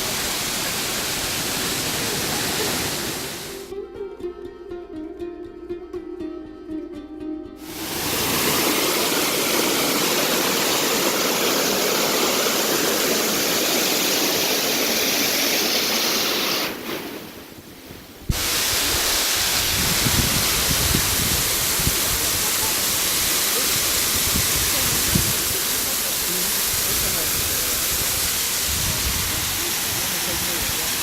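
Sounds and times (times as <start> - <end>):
waterfall rushing water: 0.0 - 3.7, 7.6 - 31.0.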